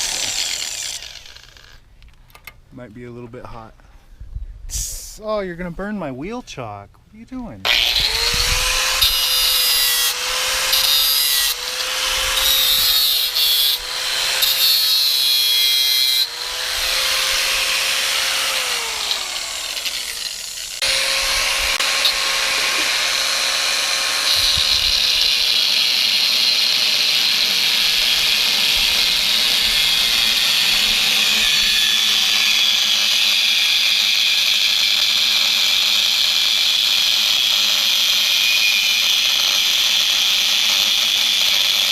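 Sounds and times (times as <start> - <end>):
power grinder grinding metal: 0.0 - 1.8, 7.7 - 41.9.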